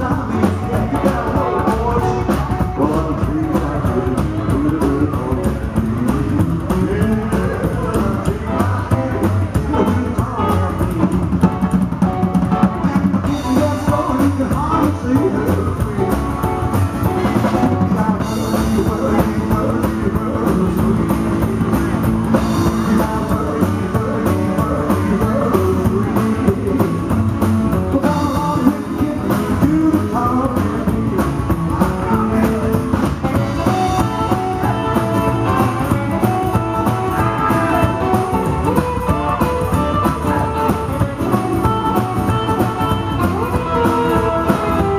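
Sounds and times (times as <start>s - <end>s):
rockabilly band playing: 0.0s - 44.9s.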